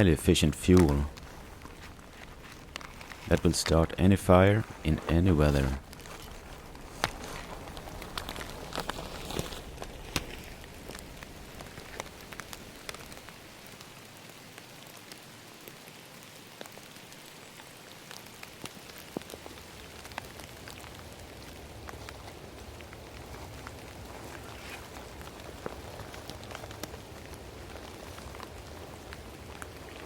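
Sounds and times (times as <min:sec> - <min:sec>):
rain falling in a forest: 0:00.0 - 0:30.0
raindrops ticking: 0:00.0 - 0:30.0.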